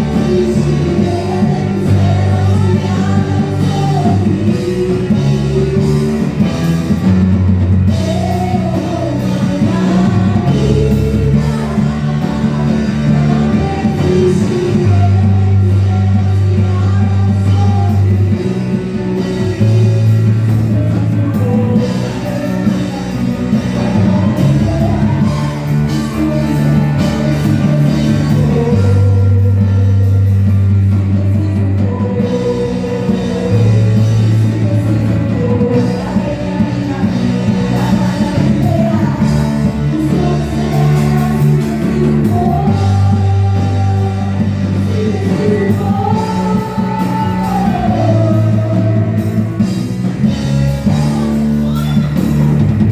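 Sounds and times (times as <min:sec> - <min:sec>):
bass guitar long notes: 0:00.0 - 0:52.9
live rock band playing: 0:00.0 - 0:52.9
person singing: 0:00.0 - 0:52.9.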